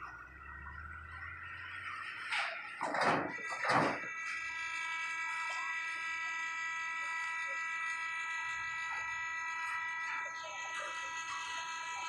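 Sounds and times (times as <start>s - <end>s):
high-pitched machine whine: 0.0s - 12.0s.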